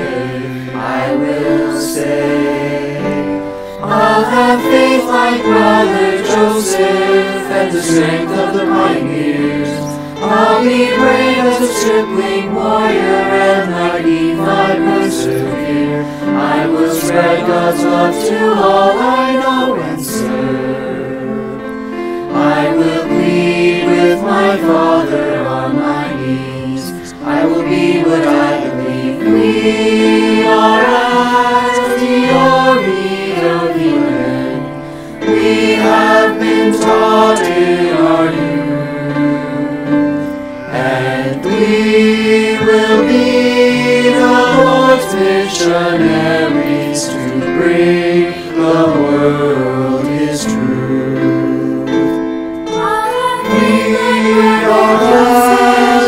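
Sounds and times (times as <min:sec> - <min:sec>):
choir singing in harmony: 0:00.0 - 0:56.0
recorded accompaniment: 0:00.0 - 0:56.0.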